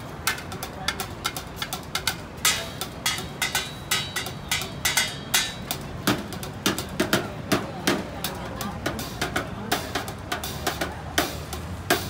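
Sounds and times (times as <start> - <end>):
drumming on pots and buckets: 0.0 - 12.0.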